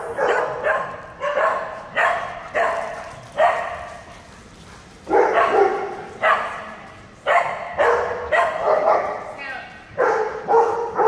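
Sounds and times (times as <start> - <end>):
dogs barking in echoing hall: 0.0 - 11.0.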